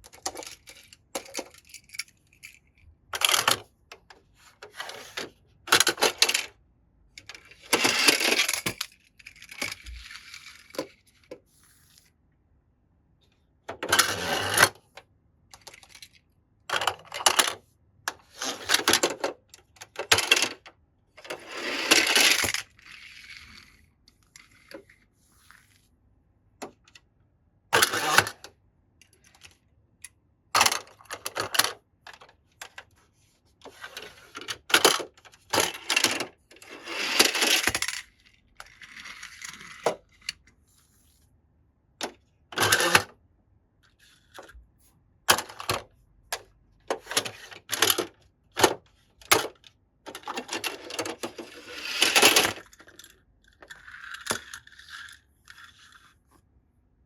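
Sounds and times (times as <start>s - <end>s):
toy cars and plastic track clicking: 0.0s - 11.4s, 13.7s - 25.8s, 27.8s - 32.9s, 33.6s - 40.4s, 42.0s - 43.2s, 45.3s - 56.4s.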